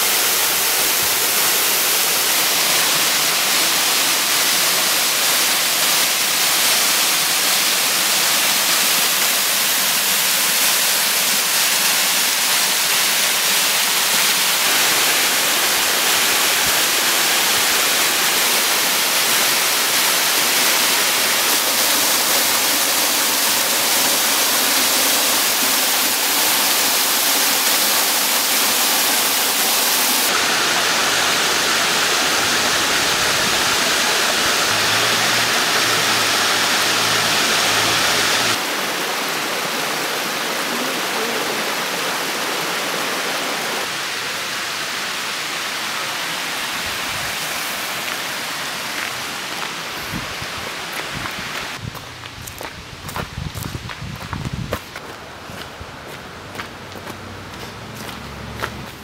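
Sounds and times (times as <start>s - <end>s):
waterfall rushing: 0.0s - 53.2s, 54.9s - 59.0s.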